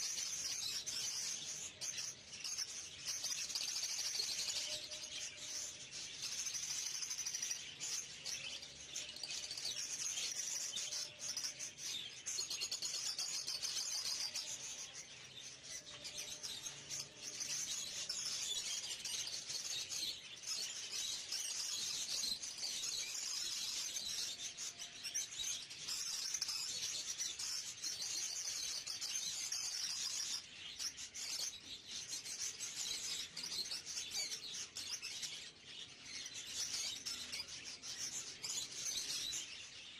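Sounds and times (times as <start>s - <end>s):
cage birds chirping: 0.0s - 39.9s.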